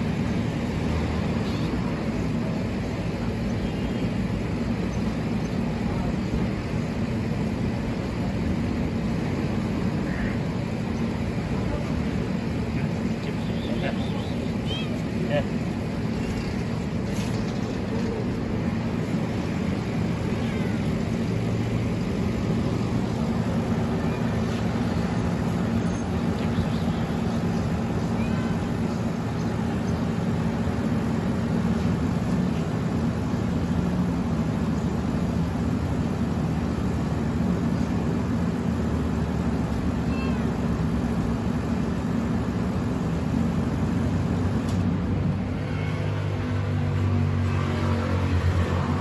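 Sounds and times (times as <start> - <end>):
street noise hum: 0.0 - 49.0.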